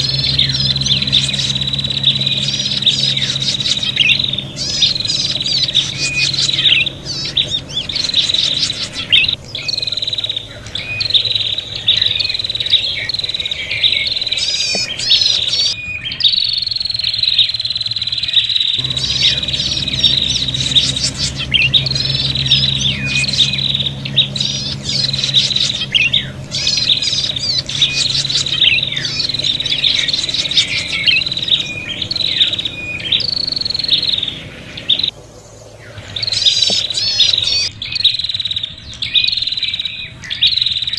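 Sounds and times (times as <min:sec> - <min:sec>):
birds chirping agitatedly: 0:00.0 - 0:40.9.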